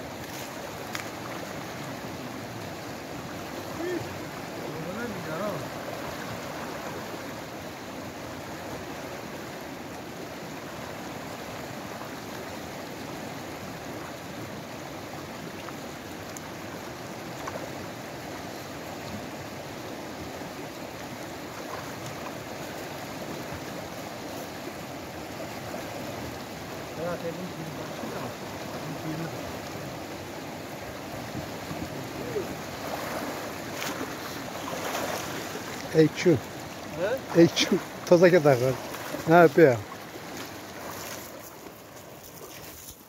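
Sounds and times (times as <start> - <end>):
river rushing over rapids: 0.0 - 43.0.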